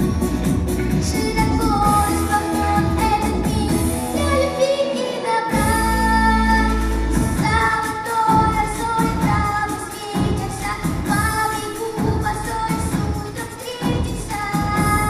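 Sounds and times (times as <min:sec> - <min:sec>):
backing track of bass and beat: 0:00.0 - 0:04.5, 0:05.5 - 0:15.0
woman singing pop: 0:00.0 - 0:15.0.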